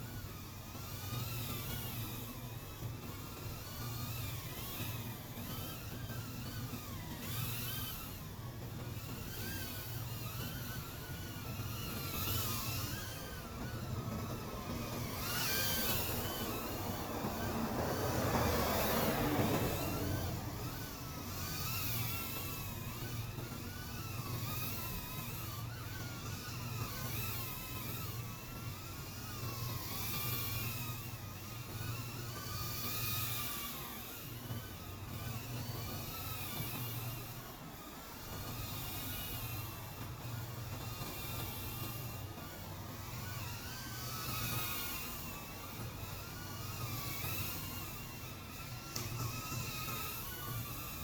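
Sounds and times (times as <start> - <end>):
drone motors whining: 0.0 - 51.0.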